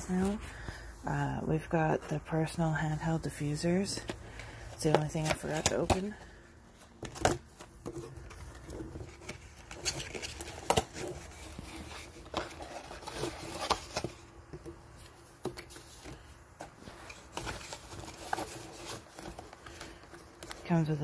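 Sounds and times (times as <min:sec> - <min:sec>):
cardboard boxes handled: 0:03.5 - 0:20.7.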